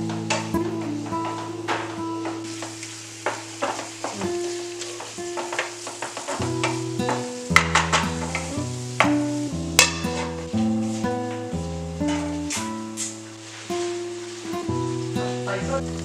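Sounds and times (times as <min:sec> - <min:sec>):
wooden spatula scraping pan: 0:00.0 - 0:09.2, 0:09.8 - 0:14.6
light sizzle: 0:00.0 - 0:16.0.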